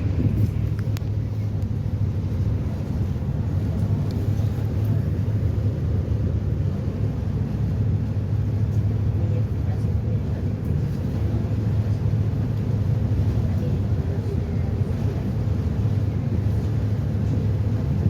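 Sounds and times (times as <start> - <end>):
ferry engines droning: 0.0 - 18.0.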